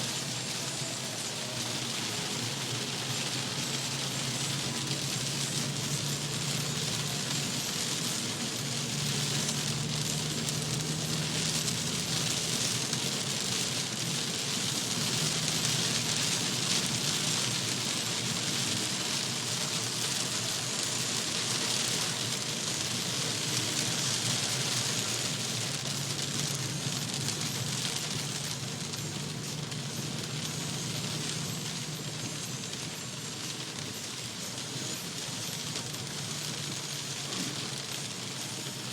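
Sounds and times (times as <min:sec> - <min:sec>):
torrential rain: 0:00.0 - 0:38.9.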